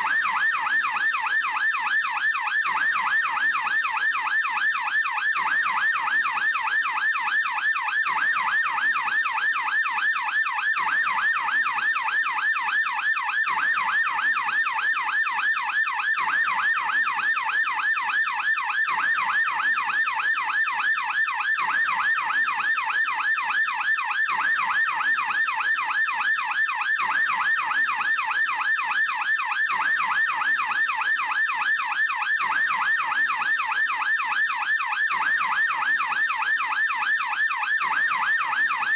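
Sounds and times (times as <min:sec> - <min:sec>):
police siren yelping: 0:00.0 - 0:38.9.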